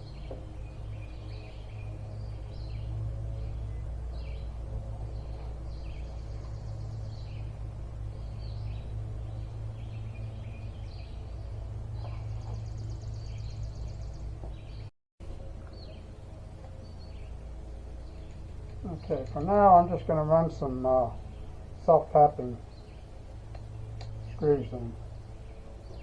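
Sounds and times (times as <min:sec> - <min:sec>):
songbirds chirping: 0:00.0 - 0:26.0
steady low rumble: 0:00.0 - 0:26.0.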